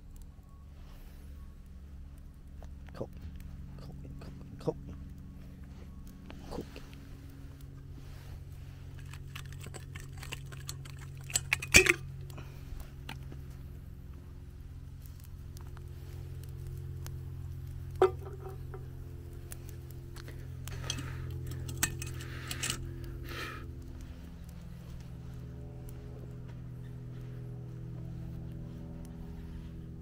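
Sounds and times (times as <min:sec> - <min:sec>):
steady low hum: 0:00.0 - 0:30.0
wood fire crackling: 0:00.0 - 0:30.0.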